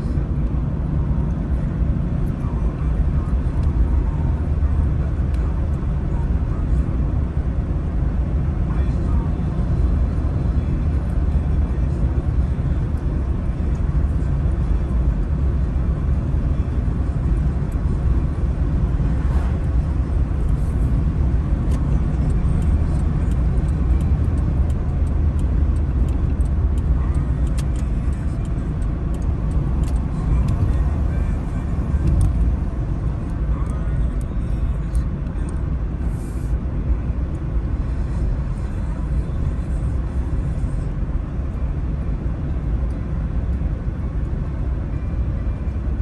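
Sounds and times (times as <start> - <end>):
engine and tyres rumbling: 0.0 - 46.0.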